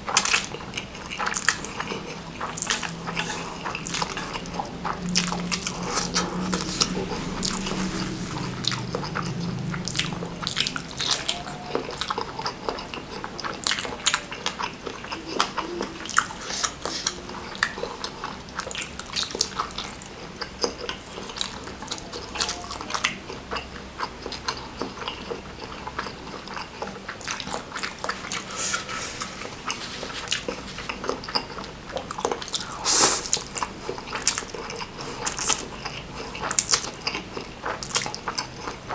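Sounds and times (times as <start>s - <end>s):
wet chewing and slurping: 0.0s - 38.9s.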